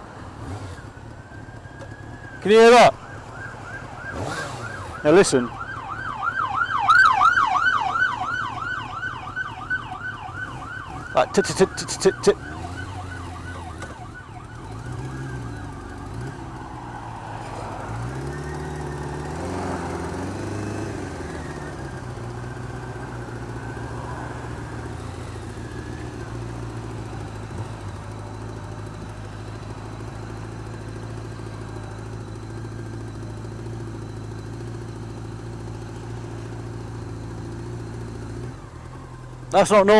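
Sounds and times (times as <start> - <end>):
motorcycle engine revving and idling: 0.0 - 2.4, 3.0 - 39.9.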